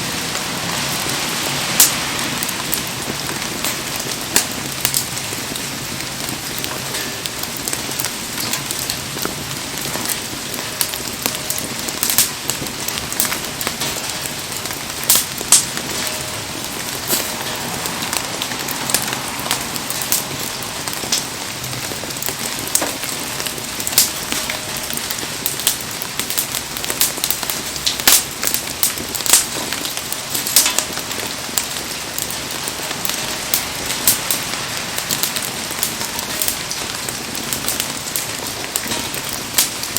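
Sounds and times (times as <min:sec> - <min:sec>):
campfire crackling: 0:00.0 - 0:39.9
heavy rain falling: 0:00.0 - 0:39.9.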